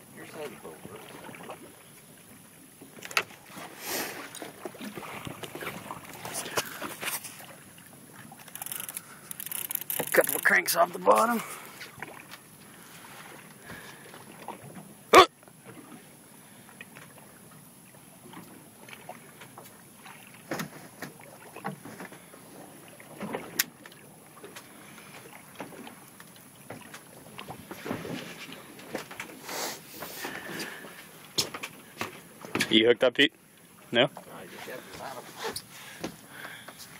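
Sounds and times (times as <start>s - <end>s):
wind: 0.0s - 36.9s.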